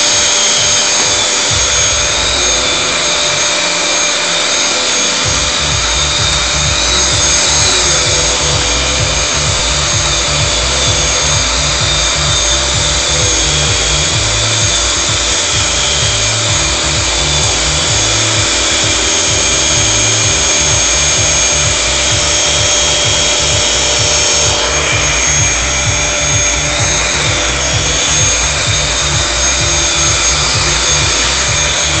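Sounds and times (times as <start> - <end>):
brush bar rumble: 0.0 - 32.0
vacuum cleaner motor whine: 0.0 - 32.0.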